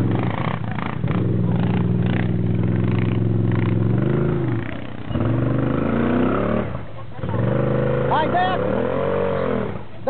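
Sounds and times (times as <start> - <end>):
atv engine revving under load: 0.0 - 10.0.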